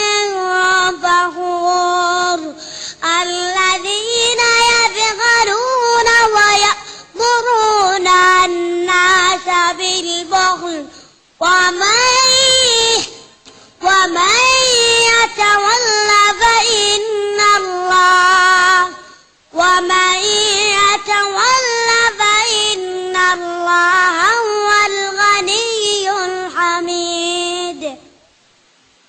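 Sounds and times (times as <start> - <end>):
child chanting melodically: 0.0 - 28.3.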